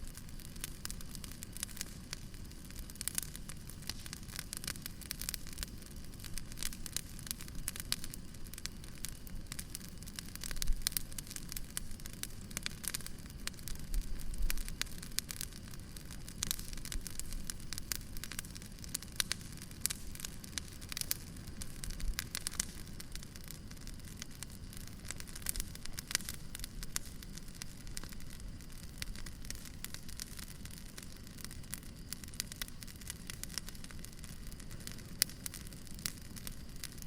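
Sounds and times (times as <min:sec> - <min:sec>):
low rumble of burning: 0:00.0 - 0:37.0
wood fire crackling and popping: 0:00.0 - 0:37.0.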